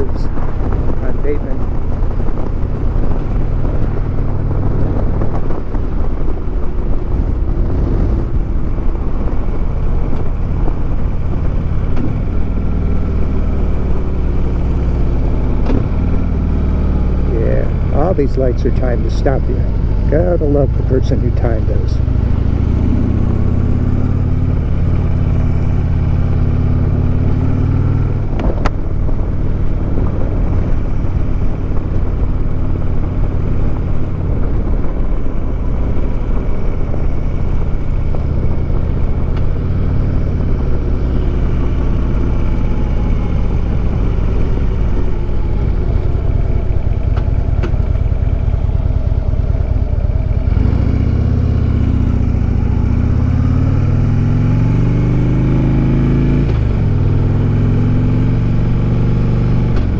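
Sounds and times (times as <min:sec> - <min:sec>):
motorcycle engine idling and accelerating: 0:00.0 - 0:59.9.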